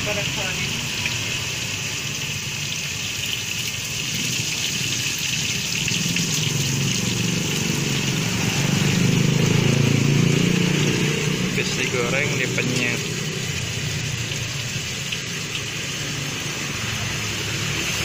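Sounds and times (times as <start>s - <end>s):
deep-frying sizzle: 0.0s - 18.0s.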